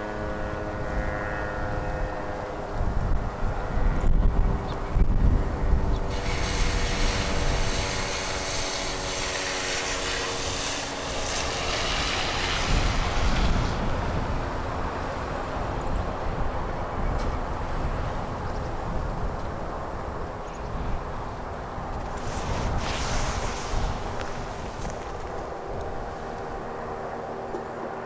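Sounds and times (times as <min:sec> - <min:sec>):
wind rumble: 0:00.2 - 0:27.5.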